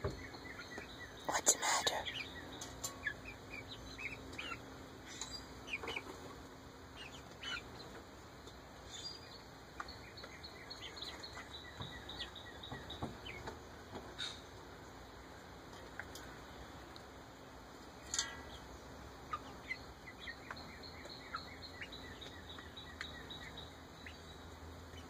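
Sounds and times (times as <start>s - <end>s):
chicks peeping and chirping: 0.0s - 25.0s.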